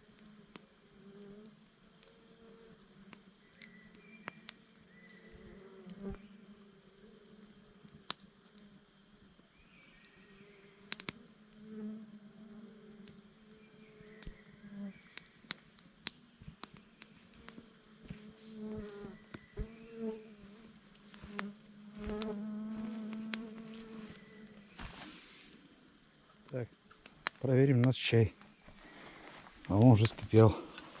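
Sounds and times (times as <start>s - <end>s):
insect buzzing: 0.0s - 27.8s
campfire crackling: 0.0s - 31.0s.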